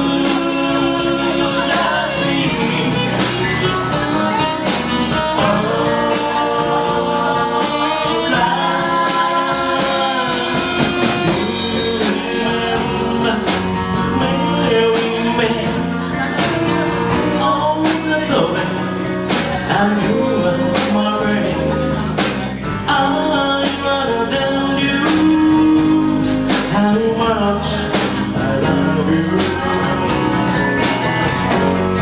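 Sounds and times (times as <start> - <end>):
guitar: 0.0 - 32.0
live rock band ballad: 0.0 - 32.0
steady drum beat: 0.0 - 32.0.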